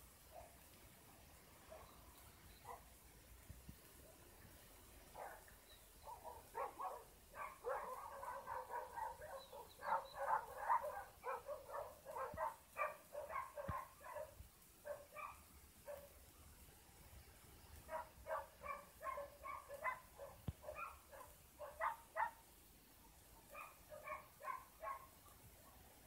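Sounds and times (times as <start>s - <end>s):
faint dogs barking: 0.2s - 0.8s, 1.6s - 3.0s, 5.0s - 16.3s, 17.7s - 26.0s.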